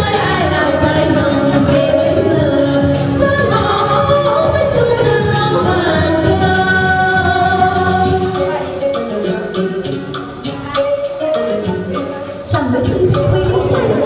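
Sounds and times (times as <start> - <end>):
song with singing and instruments: 0.0 - 14.0.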